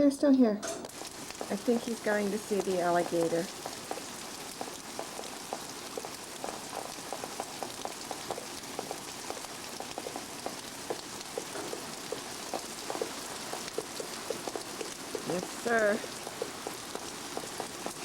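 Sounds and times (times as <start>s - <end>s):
raindrops ticking and plinking: 0.1s - 18.0s
heavy rain pouring: 0.9s - 18.0s.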